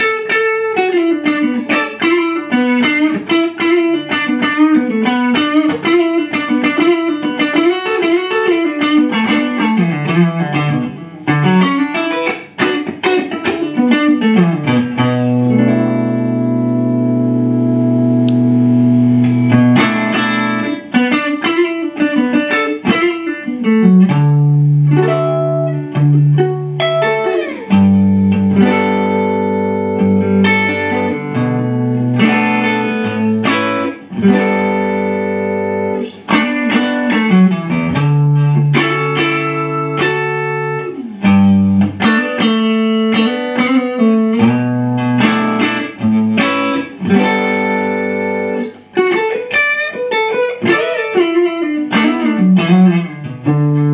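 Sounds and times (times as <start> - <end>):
electric guitar chords and phrases: 0.0 - 53.9.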